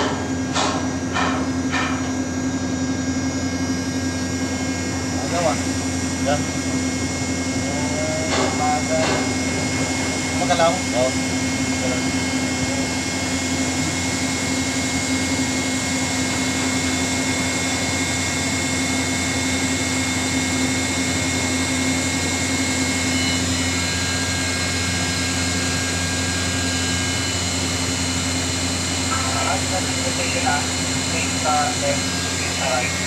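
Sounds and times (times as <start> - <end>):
hydraulic crane hum with whine: 0.0 - 33.0.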